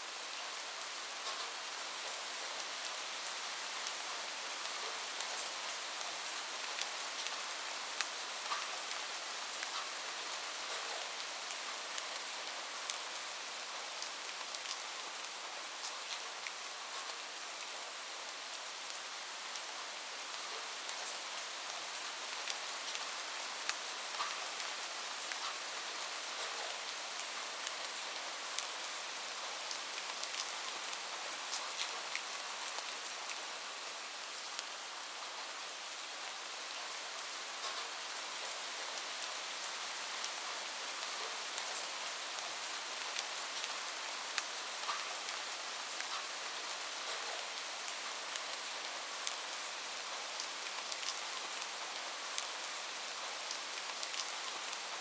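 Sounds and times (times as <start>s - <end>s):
rain falling on a roof: 0.0s - 55.0s.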